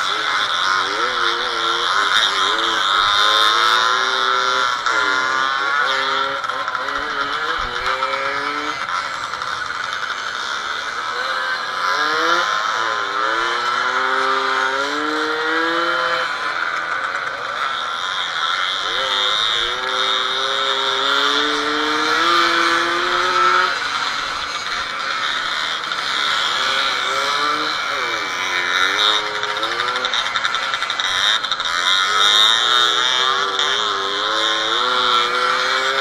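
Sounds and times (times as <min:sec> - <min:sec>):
two-stroke motorcycle engine revving: 0:00.0 - 0:36.0.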